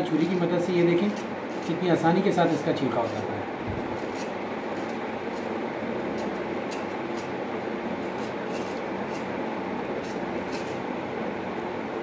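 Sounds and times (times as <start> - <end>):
knife scraping tomato skin: 0.0 - 11.0.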